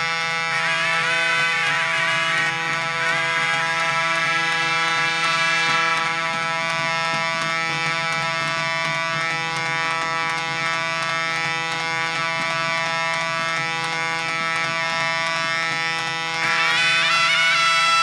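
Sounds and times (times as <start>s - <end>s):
steady droning tone: 0.0s - 18.0s.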